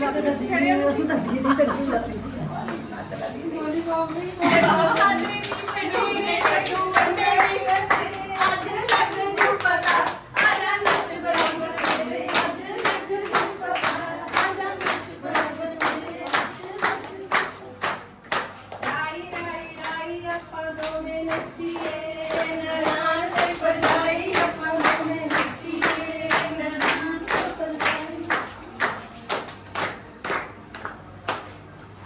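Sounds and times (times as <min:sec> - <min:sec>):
hands clapping a steady rhythm: 0:04.5 - 0:32.0.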